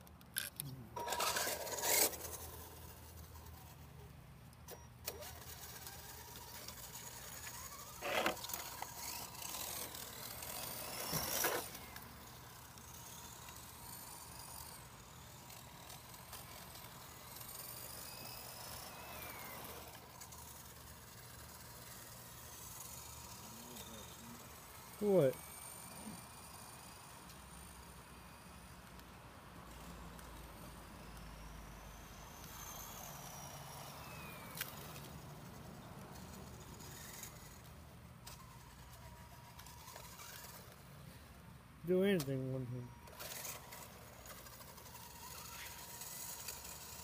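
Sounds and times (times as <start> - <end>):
model car motor whining: 0.1 - 47.0.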